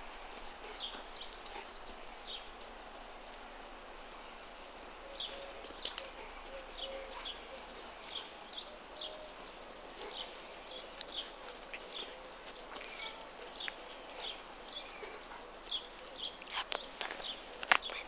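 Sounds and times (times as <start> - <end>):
dog paws on grass: 0.0 - 18.0
small birds chirping: 0.3 - 18.0.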